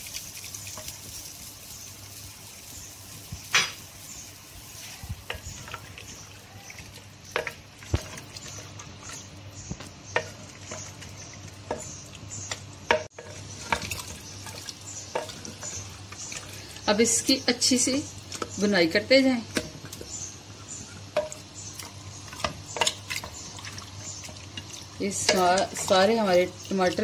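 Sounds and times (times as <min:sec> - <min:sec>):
oil sizzling: 0:00.0 - 0:27.0.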